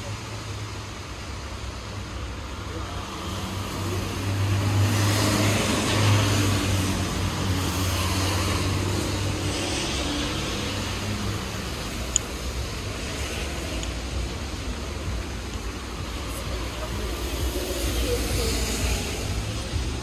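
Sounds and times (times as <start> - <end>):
vehicle passing on wet street: 0.0 - 20.0.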